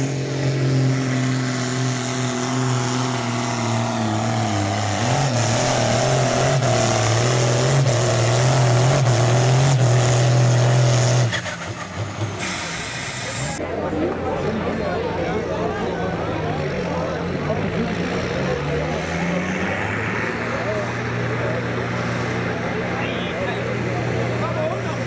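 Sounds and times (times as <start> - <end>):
tractor diesel engine droning: 0.0 - 25.0.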